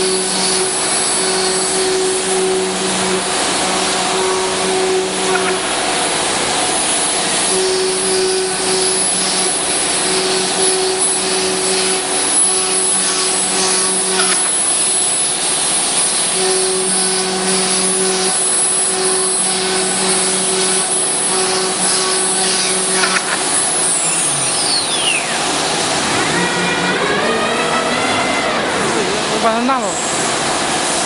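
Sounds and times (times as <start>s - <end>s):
low machine hum: 0.0s - 31.0s
router bit cutting wood: 0.0s - 31.0s.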